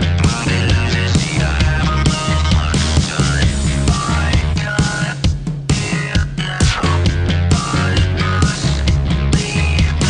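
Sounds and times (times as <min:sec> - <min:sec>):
electronic rock song: 0:00.0 - 0:10.0.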